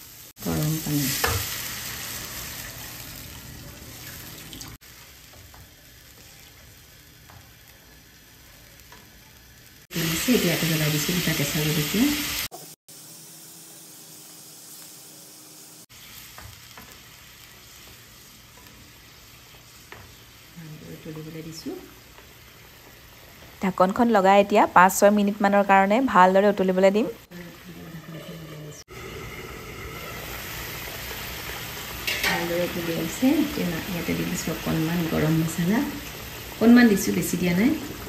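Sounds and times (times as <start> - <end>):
sauce sizzling in hot oil: 0.0 - 38.0.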